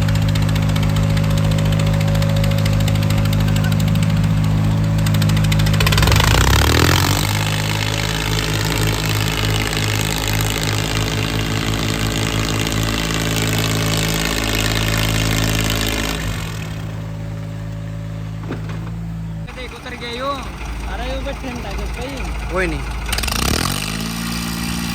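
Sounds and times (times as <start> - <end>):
diesel tractor engines under load: 0.0 - 24.9.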